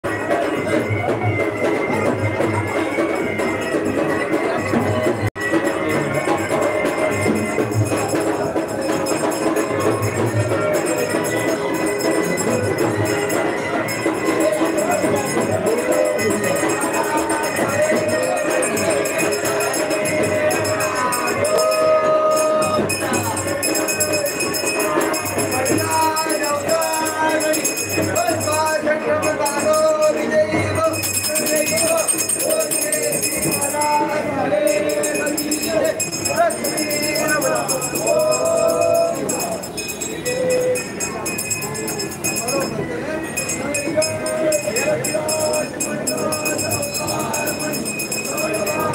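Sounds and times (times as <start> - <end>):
music with drums and jingling percussion: 0.1 - 48.9.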